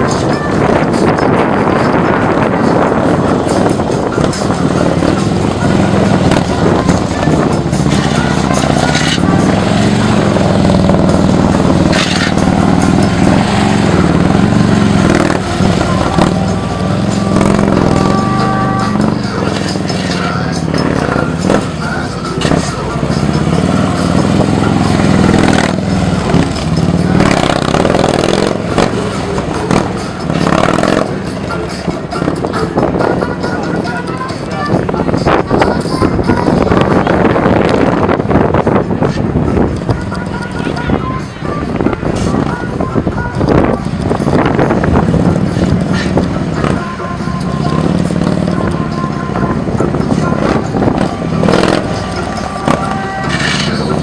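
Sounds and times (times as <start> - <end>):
music playing: 0.0 - 54.0
motorcycle engine revving: 1.6 - 34.2, 42.6 - 54.0.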